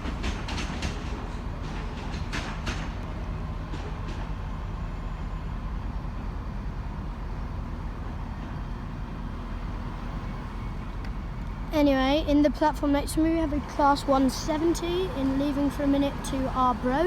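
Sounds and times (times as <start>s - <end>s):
train wheels clicking over rail joints: 0.0s - 5.2s, 8.2s - 17.0s
train low rumble: 0.0s - 17.0s.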